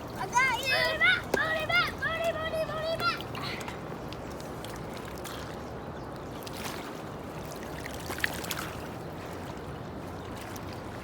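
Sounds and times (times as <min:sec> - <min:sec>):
flowing water: 0:00.0 - 0:11.0.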